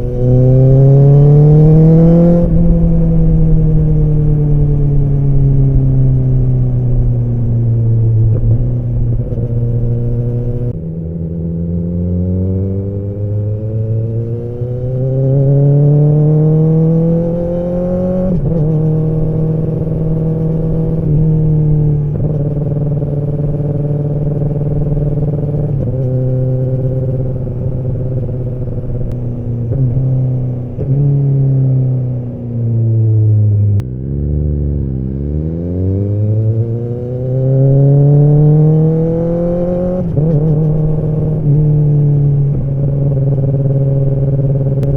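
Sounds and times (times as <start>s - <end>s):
motorcycle exhaust revving: 0.0s - 44.9s.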